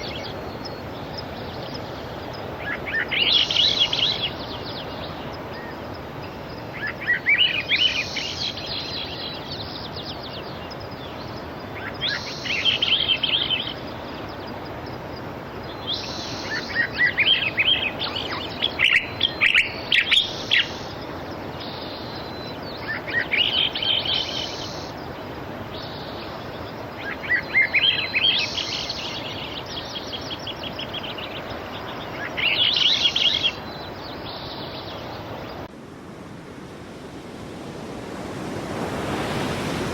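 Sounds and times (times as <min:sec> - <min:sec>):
sea surf: 0:00.0 - 0:39.9
songbird chirping: 0:00.0 - 0:39.9.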